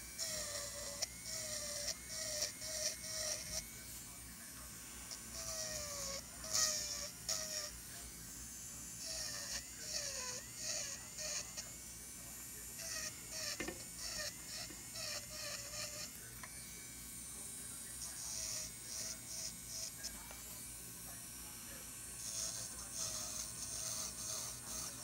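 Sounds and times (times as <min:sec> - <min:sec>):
electric nail drill grinding: 0:00.0 - 0:25.0.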